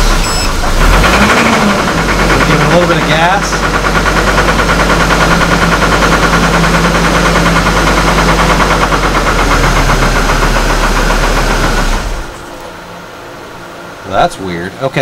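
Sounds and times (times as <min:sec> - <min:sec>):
engine running with uneven pulse: 0:00.0 - 0:14.6.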